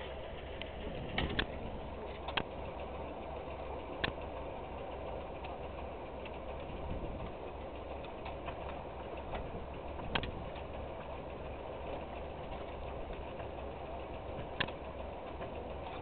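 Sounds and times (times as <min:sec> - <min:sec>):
low wind rumble: 0:00.0 - 0:16.0
tractor engine idling: 0:00.0 - 0:16.0.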